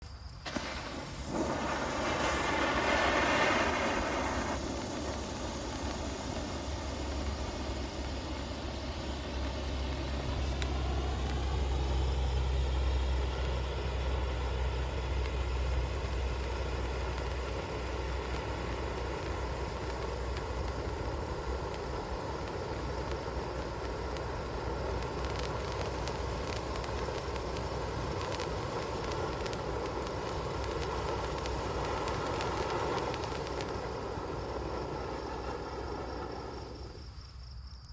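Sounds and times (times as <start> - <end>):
firework fountain hissing: 0.0 - 37.8.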